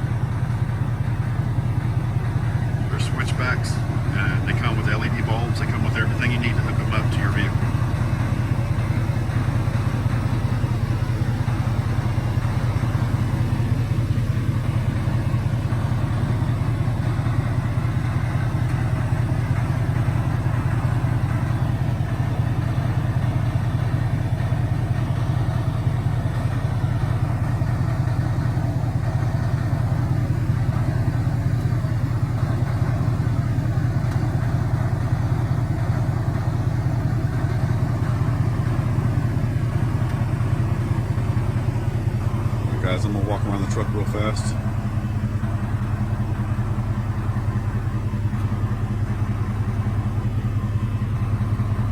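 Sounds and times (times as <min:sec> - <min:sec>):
pickup engine idling: 0:00.0 - 0:51.9.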